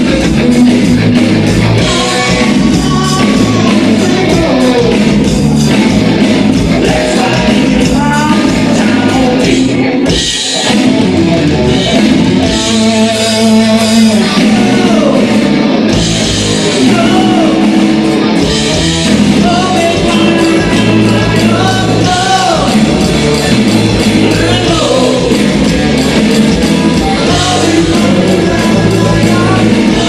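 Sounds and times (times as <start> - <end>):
person singing: 0.0 - 5.7, 6.6 - 15.5, 16.2 - 18.0, 19.2 - 30.0
drum kit: 0.0 - 30.0
electric guitar: 0.0 - 30.0.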